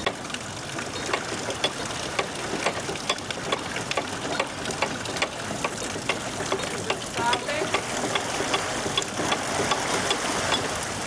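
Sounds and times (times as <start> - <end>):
water rushing: 0.0 - 11.0
ratchet pawl clicking: 1.0 - 10.7.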